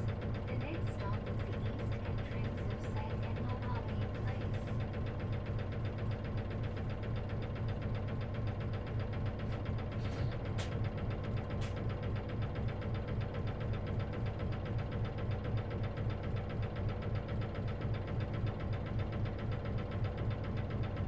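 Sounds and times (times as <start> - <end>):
bus diesel engine knocking: 0.0 - 21.0.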